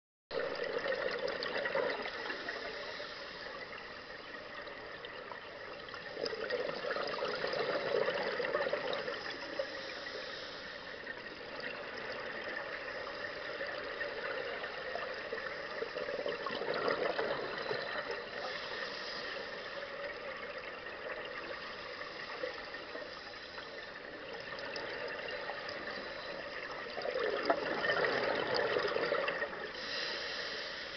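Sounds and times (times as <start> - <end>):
steady underwater hiss: 0.4 - 30.9.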